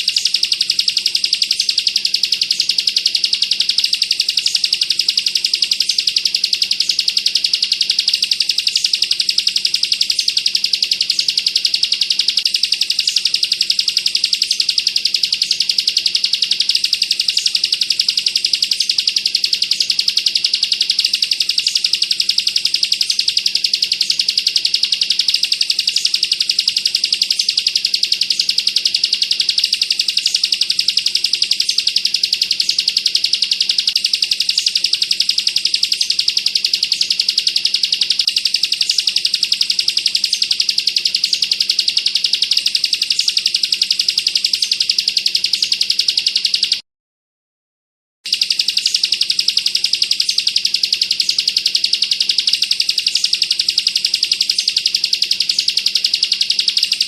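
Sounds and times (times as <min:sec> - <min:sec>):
bird chattering trill: 0:00.0 - 0:46.8, 0:48.3 - 0:57.0.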